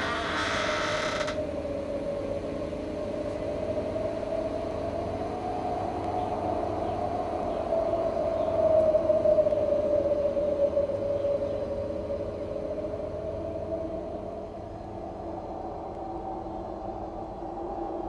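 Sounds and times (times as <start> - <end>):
eerie droning tone: 0.0 - 18.0.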